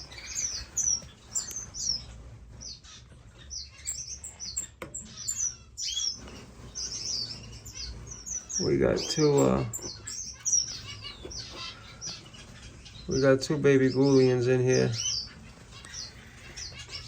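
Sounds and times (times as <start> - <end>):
finches chirping: 0.0 - 17.0.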